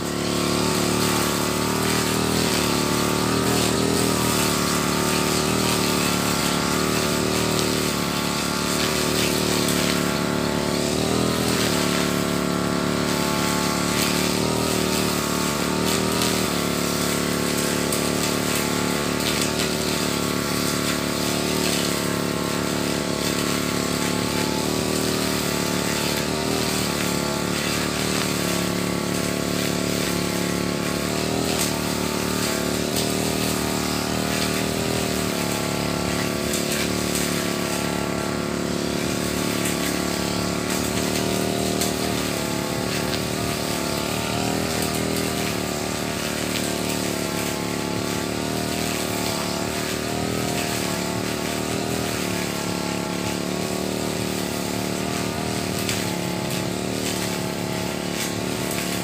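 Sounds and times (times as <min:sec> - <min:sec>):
brush cutter engine cutting grass: 0:00.0 - 0:59.0.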